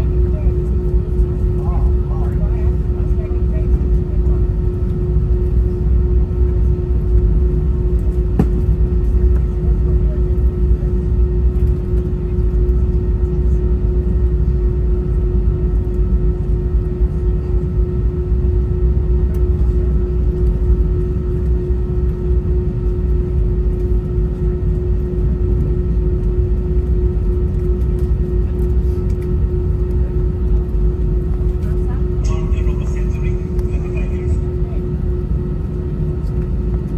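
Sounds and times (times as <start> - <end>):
constant hum: 0.0 - 36.9
jet engine cabin rumble: 0.0 - 36.9.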